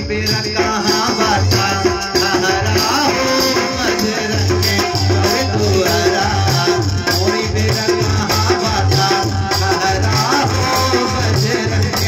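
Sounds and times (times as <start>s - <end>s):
harmonium: 0.0s - 12.0s
low drum beat: 0.0s - 12.0s
rattling percussion: 0.0s - 12.0s.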